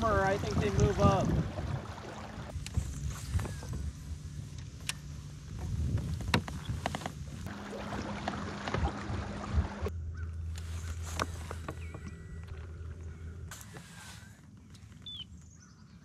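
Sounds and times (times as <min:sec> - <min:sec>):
water noise: 0:00.0 - 0:15.2
low steady hum: 0:01.1 - 0:16.0.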